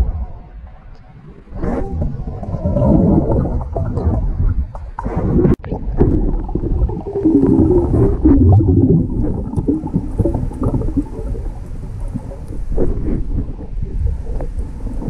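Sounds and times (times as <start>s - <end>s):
underwater rumbling water: 0.0s - 15.0s.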